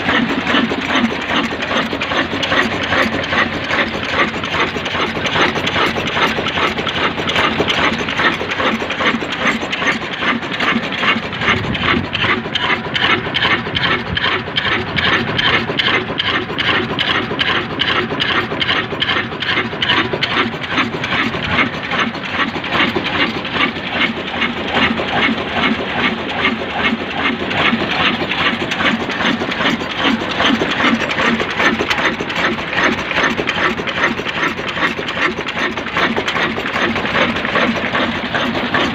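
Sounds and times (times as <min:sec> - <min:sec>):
diesel engine clattering: 0:00.0 - 0:38.9.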